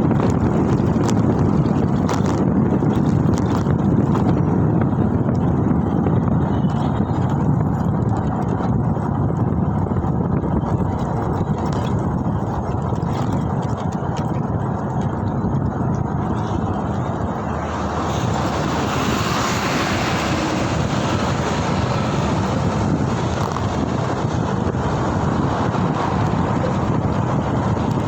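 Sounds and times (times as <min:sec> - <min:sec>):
road rumble: 0:00.0 - 0:28.0
wind buffeting microphone: 0:00.0 - 0:28.0
wind rush: 0:00.0 - 0:28.0.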